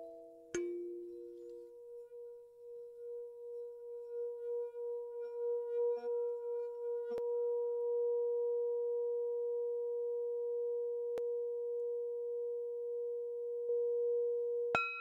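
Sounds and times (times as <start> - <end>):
singing bowl tone: 0.0 - 15.0.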